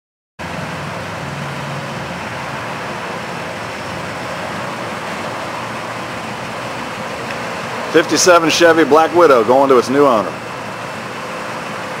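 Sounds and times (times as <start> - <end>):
cars driving along street: 0.4 - 12.0.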